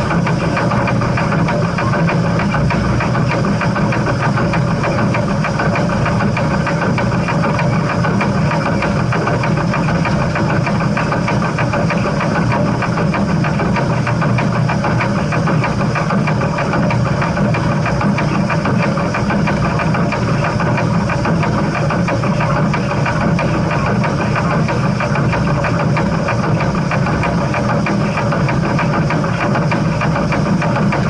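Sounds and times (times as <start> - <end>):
steam train rumbling and clattering: 0.0 - 31.0.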